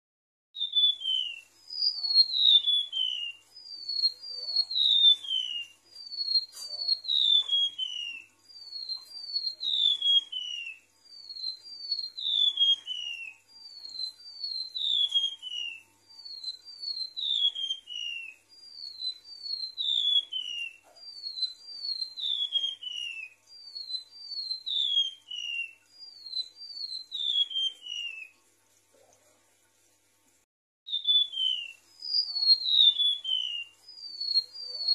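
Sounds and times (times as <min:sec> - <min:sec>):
bird whistling high thin notes: 0:00.6 - 0:28.3, 0:30.9 - 0:34.9.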